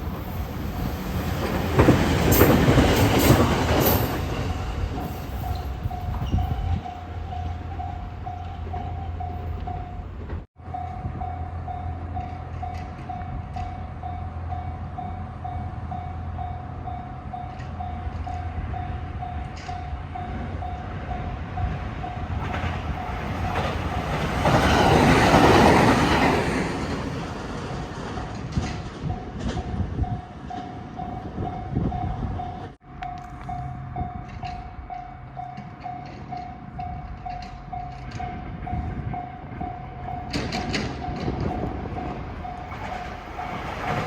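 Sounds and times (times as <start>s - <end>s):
train passing: 0.0s - 44.0s.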